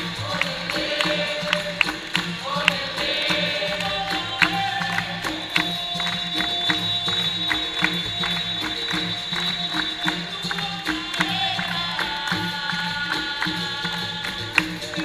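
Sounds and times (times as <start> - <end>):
percussion beat: 0.0 - 15.0
tambourine strikes: 0.0 - 15.0.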